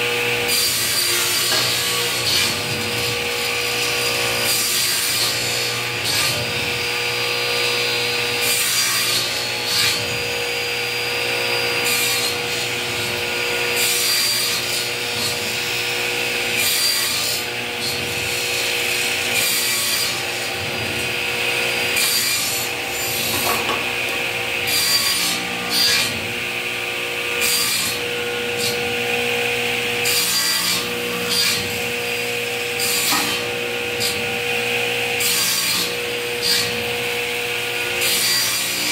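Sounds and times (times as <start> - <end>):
saw blade cutting board: 0.0 - 37.0
table saw running: 0.0 - 38.9.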